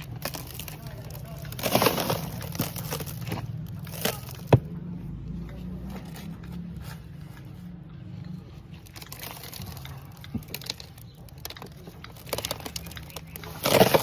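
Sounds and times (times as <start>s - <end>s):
toy truck crunching in dirt: 0.0s - 7.7s, 8.4s - 14.0s.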